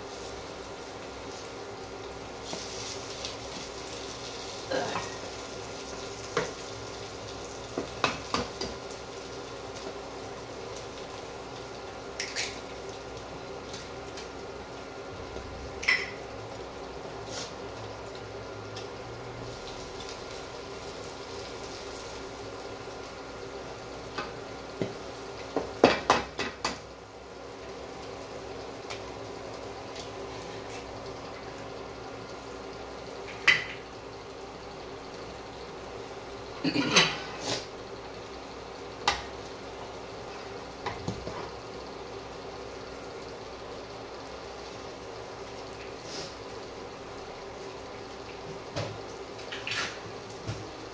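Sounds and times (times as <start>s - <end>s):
frying paste sizzling: 0.0s - 50.9s.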